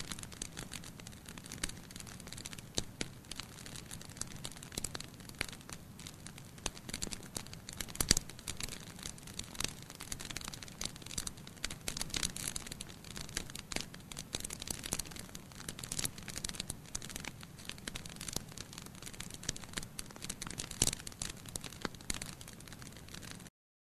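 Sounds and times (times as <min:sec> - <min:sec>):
wood fire crackling: 0:00.0 - 0:23.5.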